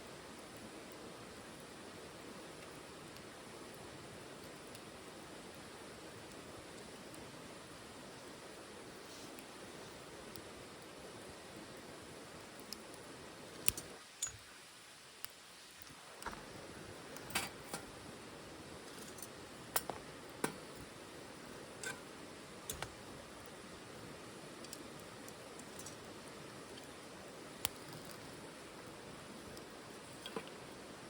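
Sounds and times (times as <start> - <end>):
low fire hiss: 0.0 - 31.0
wood fire crackling and popping: 0.2 - 31.0.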